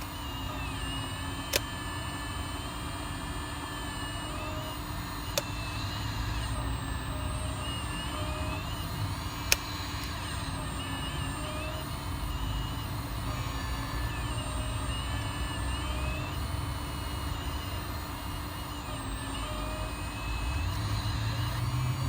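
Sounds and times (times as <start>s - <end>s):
toy excavator hydraulic humming: 0.0s - 22.0s.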